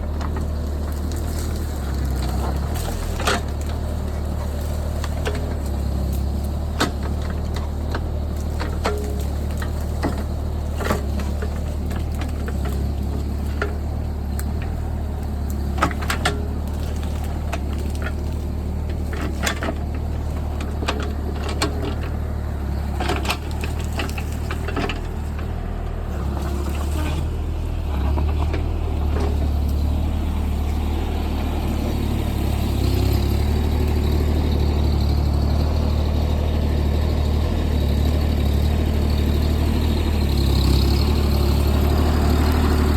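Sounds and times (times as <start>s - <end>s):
diesel excavator engine running: 0.0s - 42.9s.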